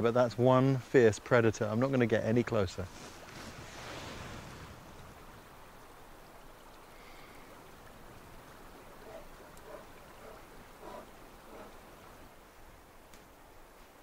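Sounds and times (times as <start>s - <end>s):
soft water-like hiss: 0.6s - 14.0s.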